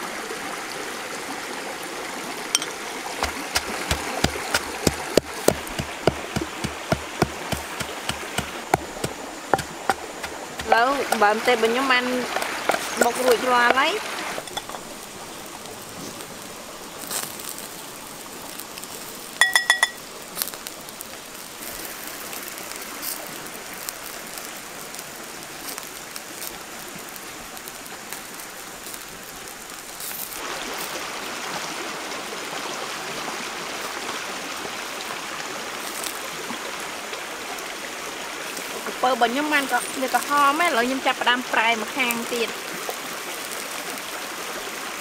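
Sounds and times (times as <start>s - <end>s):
river stream rushing: 0.0s - 45.0s.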